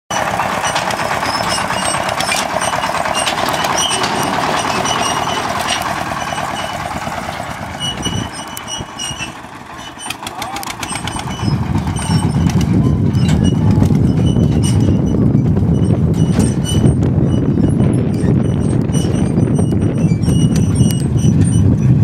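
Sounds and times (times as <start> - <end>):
tractor engine running: 0.1 - 22.0.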